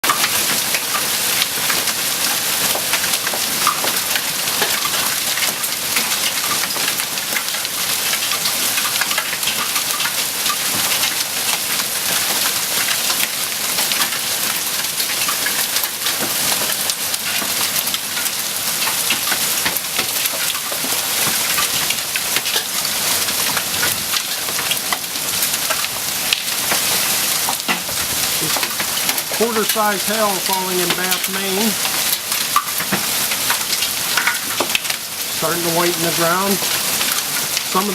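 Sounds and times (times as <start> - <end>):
hailstones clattering: 0.0 - 37.9.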